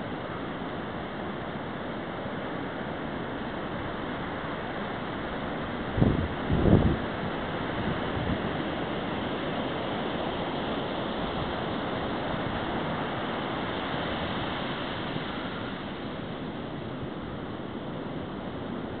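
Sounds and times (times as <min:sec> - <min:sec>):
ocean surf on sandy beach: 0:00.0 - 0:19.0.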